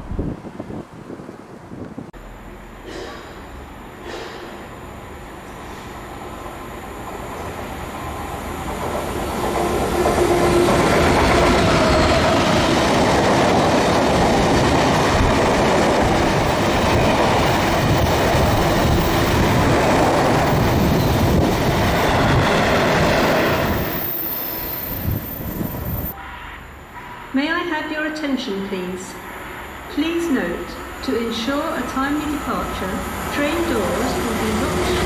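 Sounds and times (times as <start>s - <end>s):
diesel locomotive passing: 0.0s - 27.4s, 28.5s - 35.0s.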